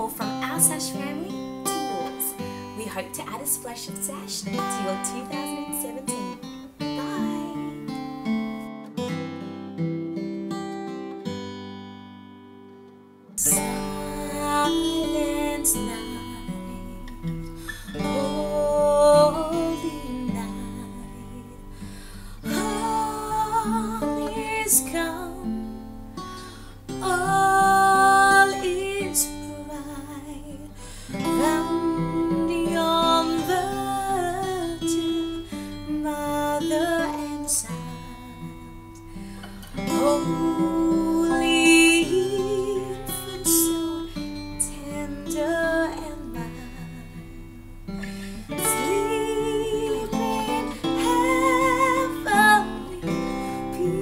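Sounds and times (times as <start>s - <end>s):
woman singing with vibrato: 0.0s - 8.0s, 13.4s - 25.7s, 26.9s - 38.9s, 39.7s - 54.0s
strummed acoustic guitar: 0.0s - 54.0s.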